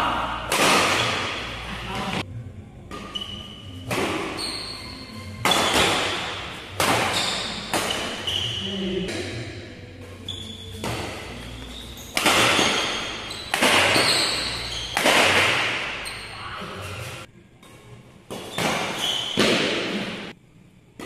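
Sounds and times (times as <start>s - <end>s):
rackets hitting shuttlecock: 0.4s - 2.2s, 2.9s - 4.6s, 5.4s - 9.4s, 10.0s - 16.3s, 17.0s - 20.3s.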